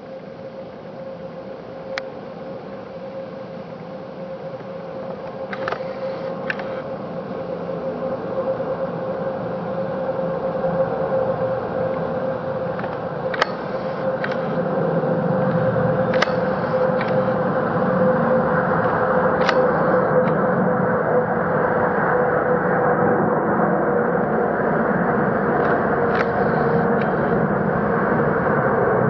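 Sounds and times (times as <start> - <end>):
jet engines roaring at takeoff: 0.0 - 29.0.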